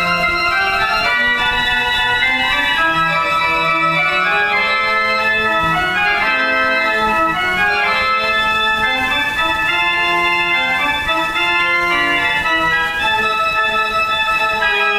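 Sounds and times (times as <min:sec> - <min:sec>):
organ music: 0:00.0 - 0:14.9.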